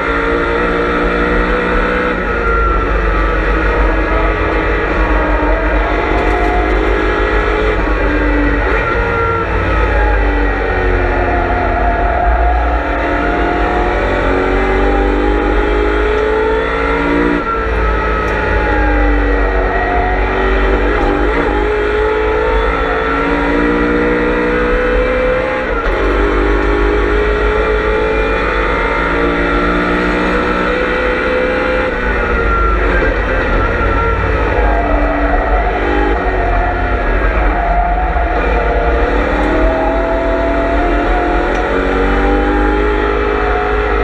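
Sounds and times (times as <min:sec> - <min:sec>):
race car engine accelerating: 0:00.0 - 0:44.0.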